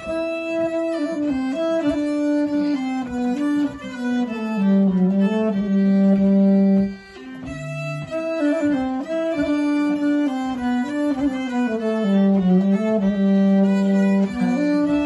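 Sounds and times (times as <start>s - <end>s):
plucked string instruments: 0.0s - 15.0s
saxophone slow melody: 0.0s - 15.0s.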